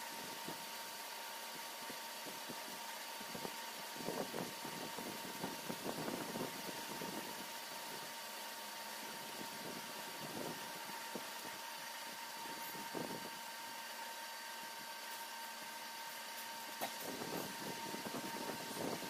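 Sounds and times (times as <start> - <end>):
milling machine whine: 1.9 - 19.0.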